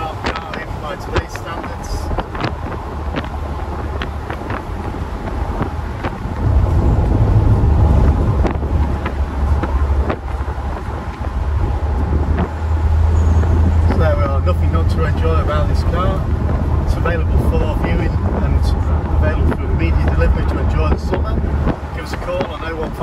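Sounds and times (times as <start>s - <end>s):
car engine: 0.0s - 23.0s
wind buffeting microphone: 0.0s - 23.0s.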